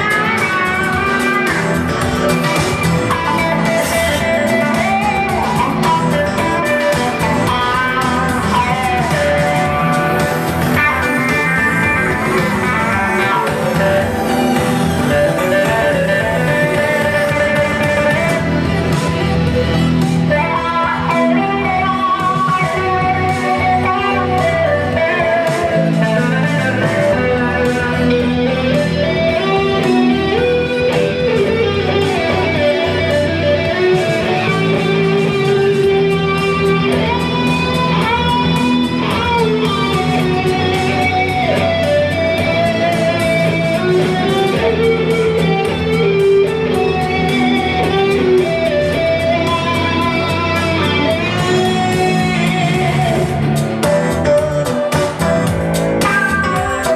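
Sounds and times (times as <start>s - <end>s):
bass: 0.0s - 56.9s
drums with steady cymbal beat: 0.0s - 56.9s
electric guitar bending notes: 0.0s - 56.9s.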